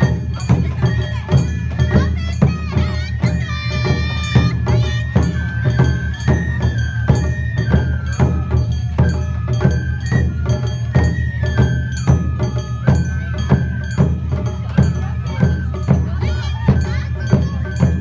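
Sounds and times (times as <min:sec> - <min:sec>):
high flute melody: 0:00.0 - 0:18.0
percussion beat: 0:00.0 - 0:18.0.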